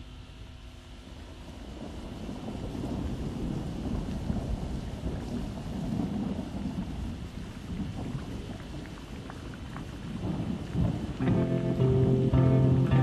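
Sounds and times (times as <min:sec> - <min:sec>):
steady rain: 0:00.0 - 0:13.0
low rumble of thunder: 0:01.0 - 0:13.0.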